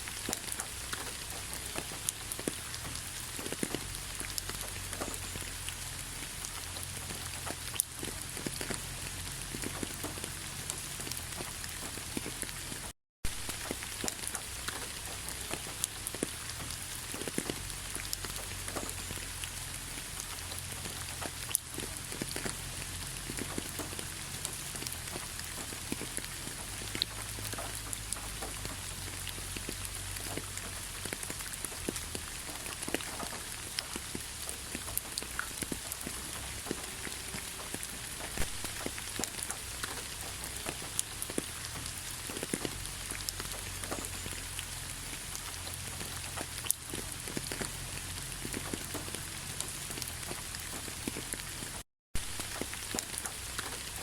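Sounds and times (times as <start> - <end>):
raindrops ticking: 0.0 - 54.0
steady rainfall: 0.0 - 54.0.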